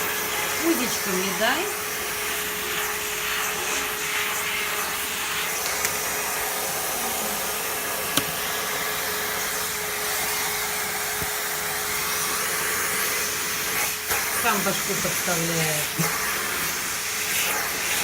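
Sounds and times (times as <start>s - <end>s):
vacuum cleaner humming: 0.0s - 18.0s.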